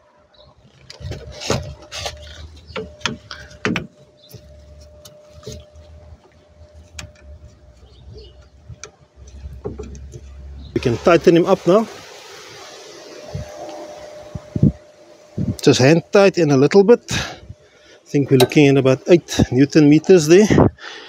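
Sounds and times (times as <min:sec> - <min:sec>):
faint steady hum: 0:00.9 - 0:21.0.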